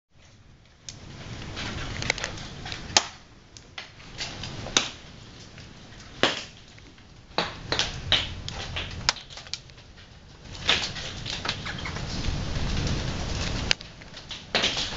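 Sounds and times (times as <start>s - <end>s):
hailstones striking hard surface: 0.2s - 14.9s
low rush of storm: 0.2s - 14.9s.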